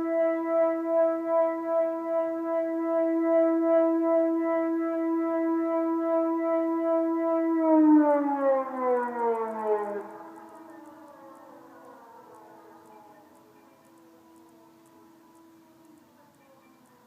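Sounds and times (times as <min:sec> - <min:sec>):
civil defence siren winding down: 0:00.0 - 0:17.0
faint steady siren tone: 0:00.0 - 0:17.0.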